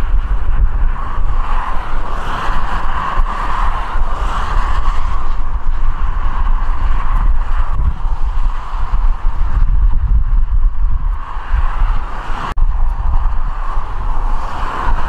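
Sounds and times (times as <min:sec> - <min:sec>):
turboprop engines droning: 0:00.0 - 0:15.0
wind buffeting microphone: 0:00.0 - 0:15.0.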